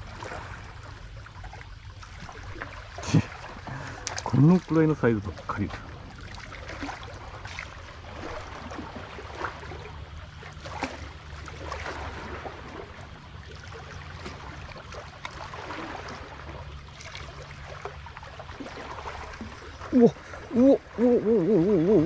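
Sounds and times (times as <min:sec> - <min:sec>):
seawater sloshing against concrete: 0:00.0 - 0:21.2
steady low hum: 0:00.0 - 0:22.0
small splashes and clicks: 0:01.3 - 0:12.2, 0:13.4 - 0:20.3.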